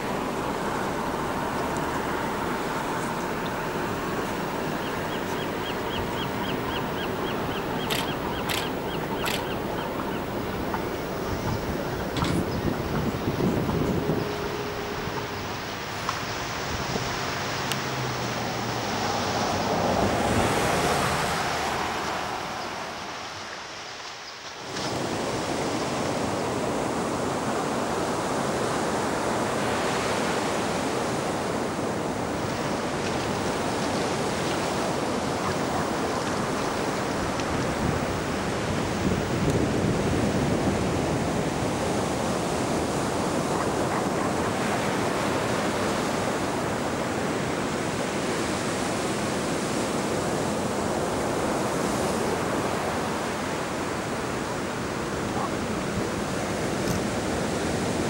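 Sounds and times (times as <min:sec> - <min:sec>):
ocean surf washing ashore: 0:00.0 - 0:58.0.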